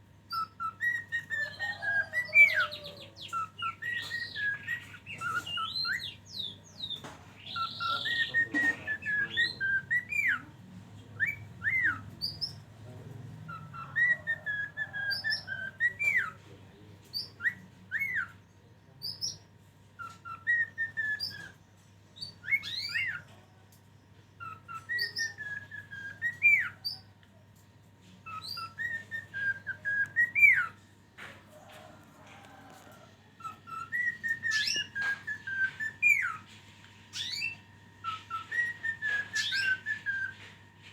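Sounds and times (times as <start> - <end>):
caged songbird whistling: 0.3 - 12.7, 13.4 - 16.5, 17.1 - 21.6, 22.2 - 23.4, 24.4 - 27.1, 28.2 - 30.8, 31.8 - 40.9.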